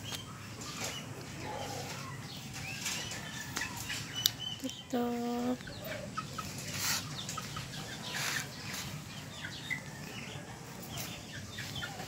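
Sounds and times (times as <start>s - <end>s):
chirp-like calls: 0.0s - 12.0s.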